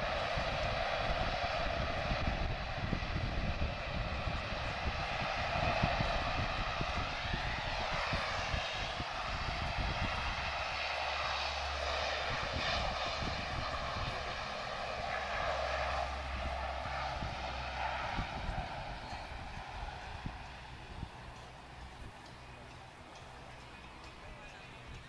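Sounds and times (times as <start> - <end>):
turboprop engines droning: 0.0 - 25.0.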